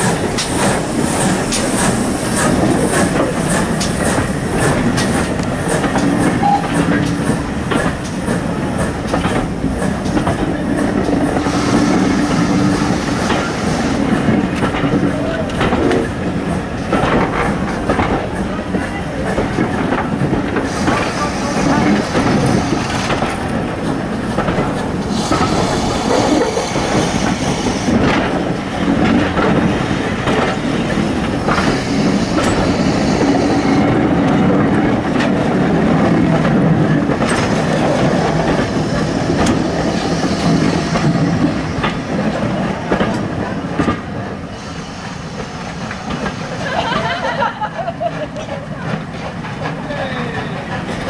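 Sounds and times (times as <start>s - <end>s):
train wheels clattering over rail joints: 0.0s - 51.0s.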